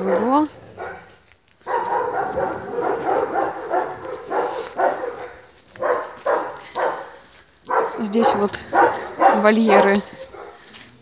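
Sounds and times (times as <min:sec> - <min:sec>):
dogs barking: 0:00.0 - 0:10.9.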